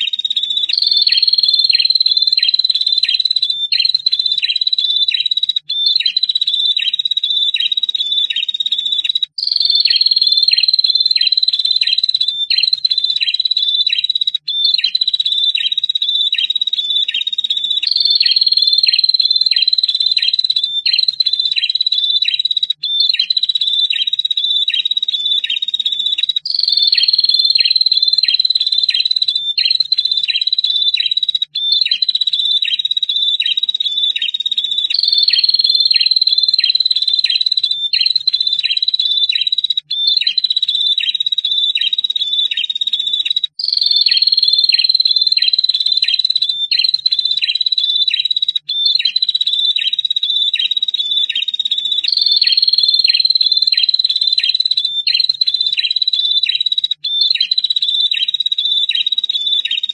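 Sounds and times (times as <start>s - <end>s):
bird high trill: 0.0s - 59.9s.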